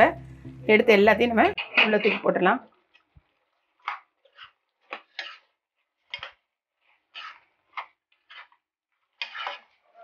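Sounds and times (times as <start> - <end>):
metal ladle scraping a pan: 1.5 - 10.0.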